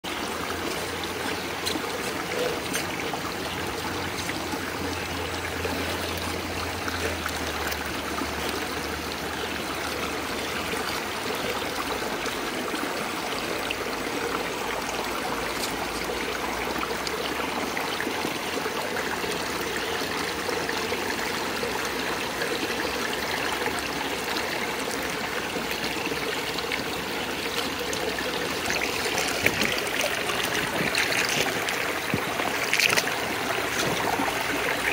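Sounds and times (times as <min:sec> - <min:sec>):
stream trickling over rocks: 0:00.0 - 0:34.9.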